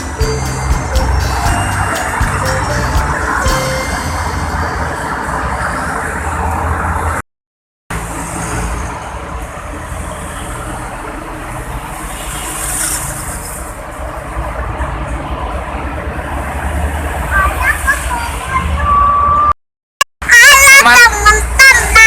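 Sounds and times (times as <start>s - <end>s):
highway traffic passing: 0.0s - 7.2s, 7.9s - 19.5s.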